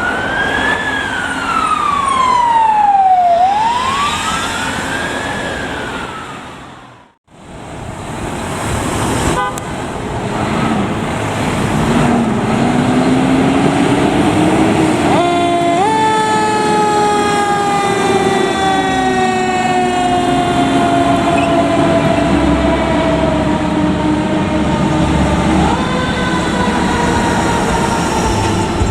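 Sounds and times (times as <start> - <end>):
fire truck siren: 0.0 - 7.2, 10.4 - 28.9.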